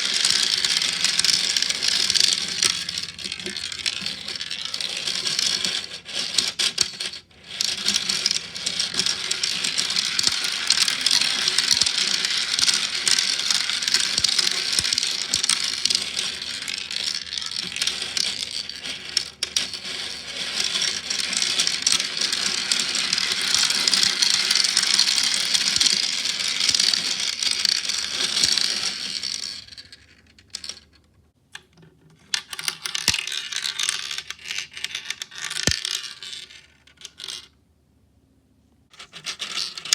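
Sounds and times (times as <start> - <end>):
balls rattling through marble run: 0.0 - 31.0, 32.4 - 37.6, 39.0 - 39.9.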